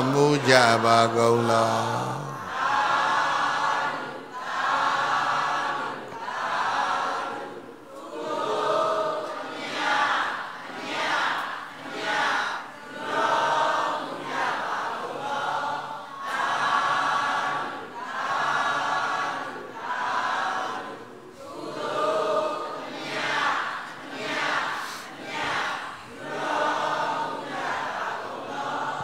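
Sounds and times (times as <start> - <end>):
group chanting in unison: 0.0 - 29.0.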